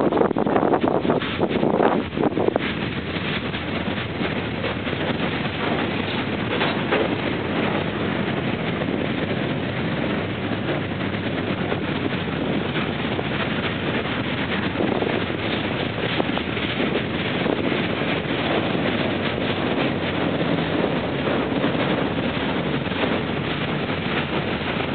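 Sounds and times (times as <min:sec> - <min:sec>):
train wheels on rails: 0:00.0 - 0:24.9.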